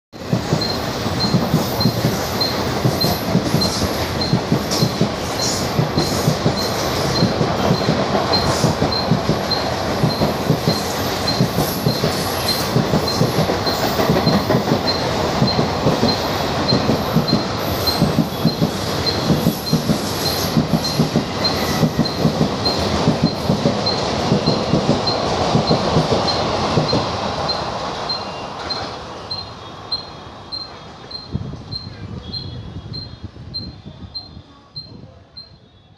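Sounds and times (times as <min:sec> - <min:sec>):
clickety-clack over rail joints: 0:00.1 - 0:35.5
train wheels rushing on rails: 0:00.2 - 0:35.7.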